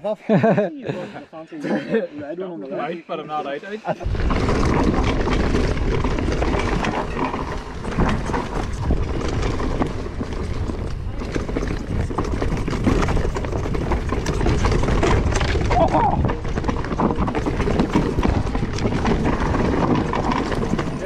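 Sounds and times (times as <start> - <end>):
bike chain and frame rattling: 4.0 - 21.0
bike tyres rumbling over dirt: 4.0 - 21.0.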